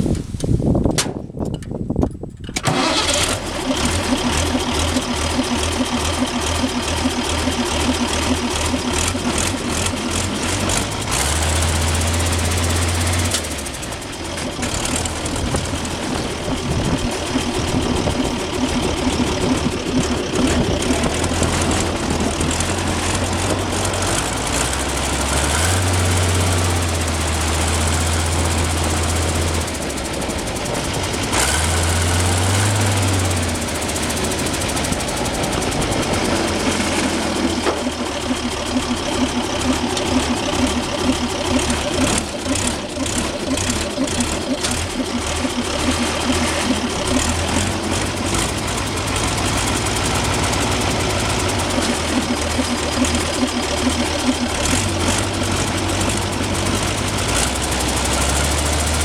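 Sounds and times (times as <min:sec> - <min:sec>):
diesel tractor engine running: 0:01.6 - 0:59.0.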